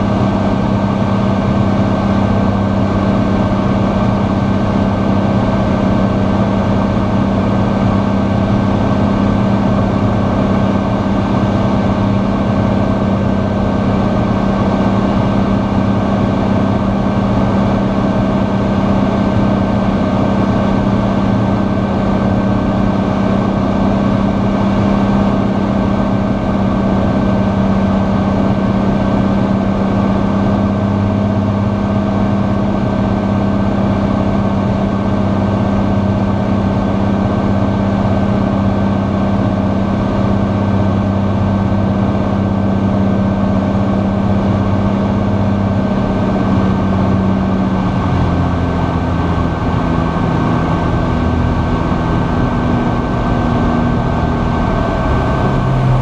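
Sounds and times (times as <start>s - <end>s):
airplane engine and propeller droning: 0.0s - 56.0s
deep rumble of landing: 0.0s - 56.0s.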